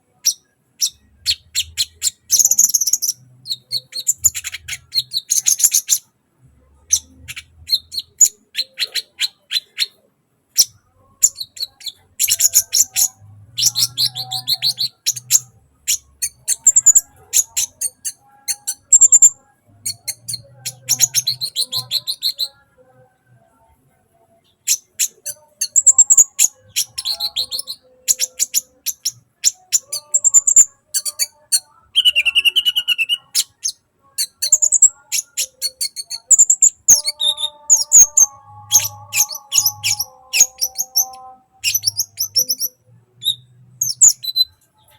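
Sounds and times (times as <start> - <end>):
sunbird singing: 0.2 - 6.1, 10.6 - 23.0, 24.6 - 44.9.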